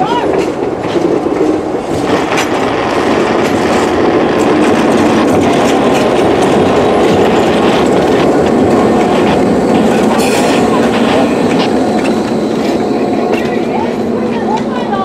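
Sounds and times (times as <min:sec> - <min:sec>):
diesel locomotive engine running: 0:00.0 - 0:15.0
steel wheels rumbling on rails: 0:00.0 - 0:15.0.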